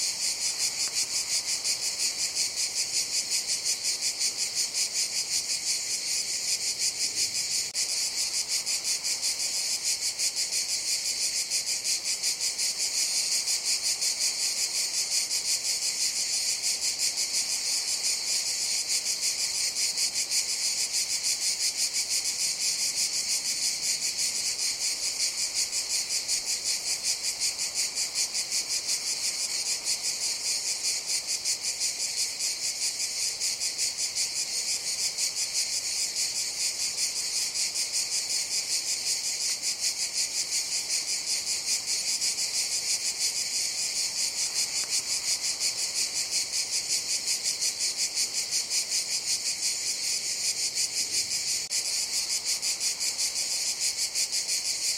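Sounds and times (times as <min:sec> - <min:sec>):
cicadas buzzing: 0:00.0 - 0:54.9.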